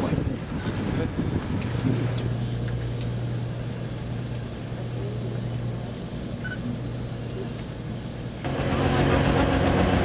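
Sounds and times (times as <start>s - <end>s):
minibus engine hum: 1.0s - 10.0s.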